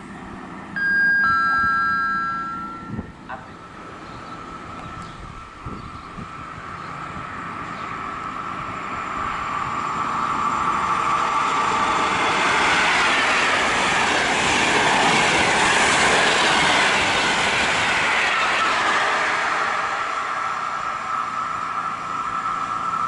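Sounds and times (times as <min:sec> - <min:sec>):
train wheels rushing on rails: 0:02.1 - 0:23.0.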